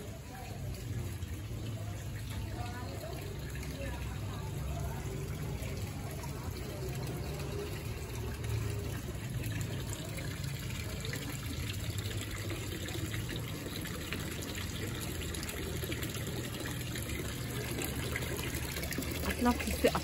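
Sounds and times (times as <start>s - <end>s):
fountain water splashing and trickling: 0.0s - 20.0s.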